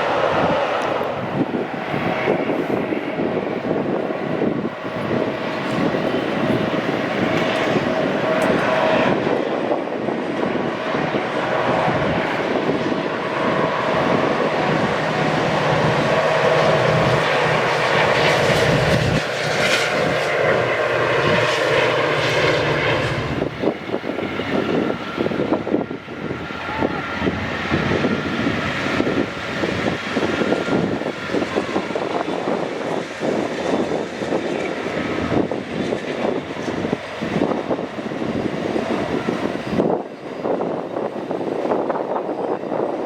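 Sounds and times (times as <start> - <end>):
train wheels rumbling: 0.0 - 43.0.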